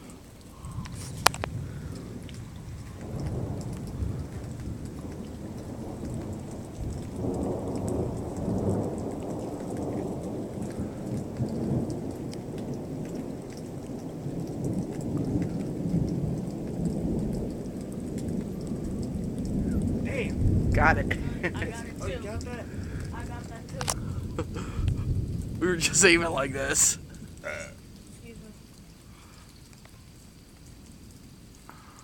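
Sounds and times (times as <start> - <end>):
rolling thunder: 0.0 - 29.3
rain falling: 0.0 - 32.0.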